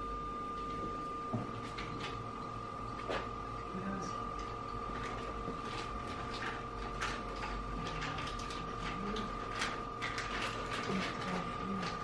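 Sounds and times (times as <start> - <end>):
testing machine drive whine: 0.0 - 12.0.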